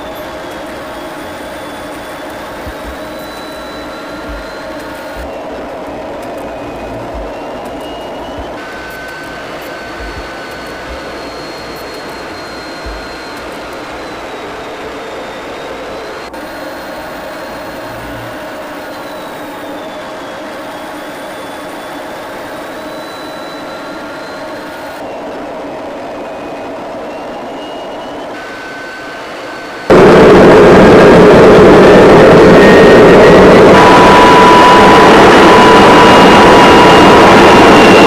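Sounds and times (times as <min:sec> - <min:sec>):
faint whining tones: 0:00.0 - 0:38.0
jet aircraft noise in cockpit: 0:00.0 - 0:38.0
loud jet engine noise: 0:00.0 - 0:38.0.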